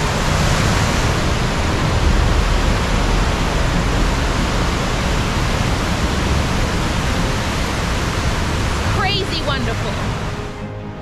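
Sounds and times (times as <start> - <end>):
river rapids roaring: 0.0 - 10.6.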